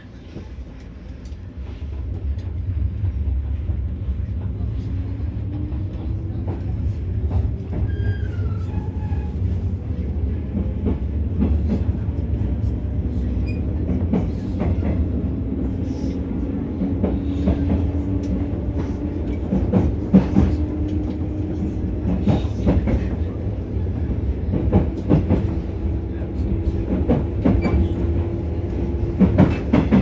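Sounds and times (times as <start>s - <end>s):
train running rumble: 0.0s - 30.0s.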